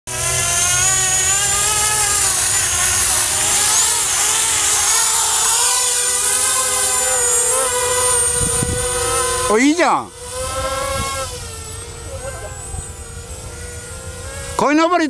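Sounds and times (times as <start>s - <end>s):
drone motors whining: 0.1s - 15.0s.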